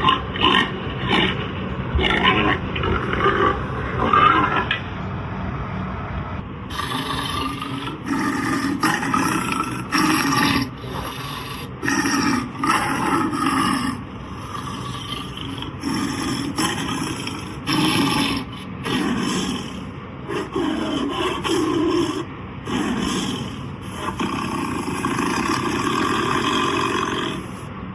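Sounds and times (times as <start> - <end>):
recorded animal calls: 0.0 - 5.2, 6.7 - 27.9
steady background noise: 0.0 - 27.9.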